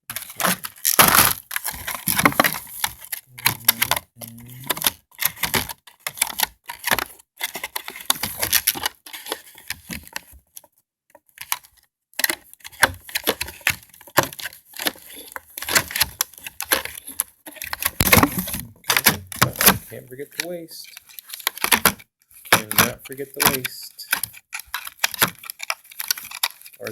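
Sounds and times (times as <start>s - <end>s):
plastic toy packaging clicking and crinkling: 0.1s - 26.9s.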